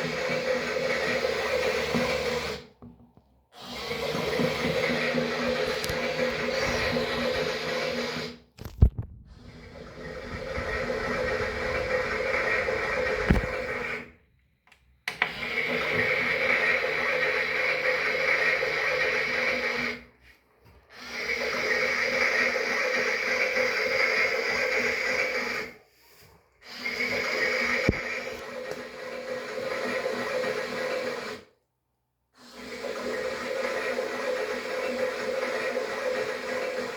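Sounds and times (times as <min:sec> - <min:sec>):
toy washing machine motor whirring: 0:00.0 - 0:02.8, 0:03.5 - 0:08.7, 0:09.3 - 0:14.2, 0:15.1 - 0:20.2, 0:20.8 - 0:25.9, 0:26.5 - 0:31.6, 0:32.4 - 0:36.9.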